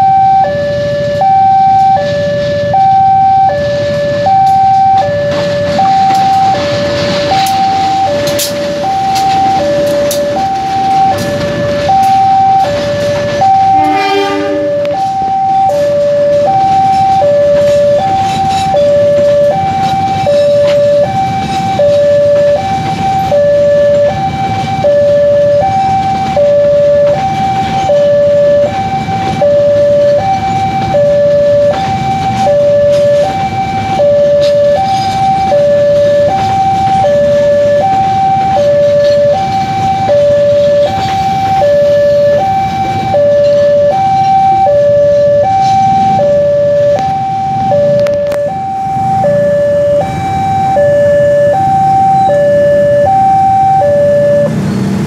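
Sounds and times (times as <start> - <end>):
level crossing two-tone alarm: 0.0 - 54.6
train carriages rumbling past: 0.0 - 55.0.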